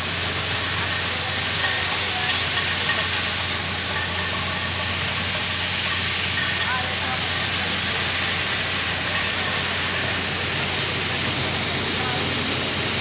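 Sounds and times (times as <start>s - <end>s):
corn sheller rushing hiss: 0.0s - 13.0s.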